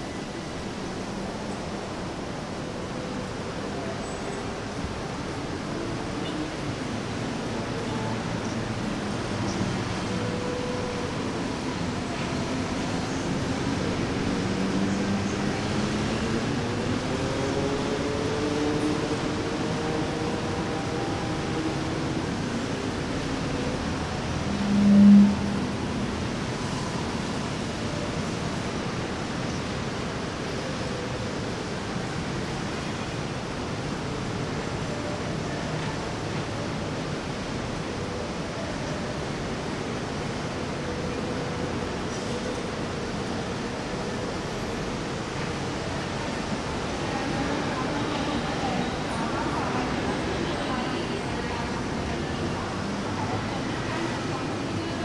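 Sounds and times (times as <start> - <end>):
city traffic noise: 0.0 - 55.0
steady rushing noise: 0.0 - 55.0.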